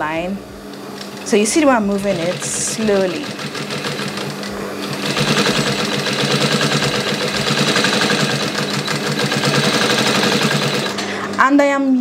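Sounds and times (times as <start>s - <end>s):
motor humming: 0.0s - 11.6s.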